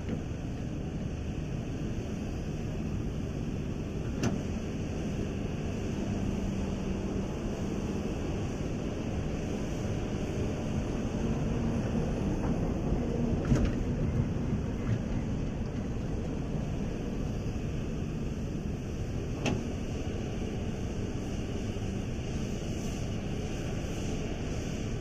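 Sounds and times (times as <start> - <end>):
excavator diesel engine running: 0.1 - 22.4.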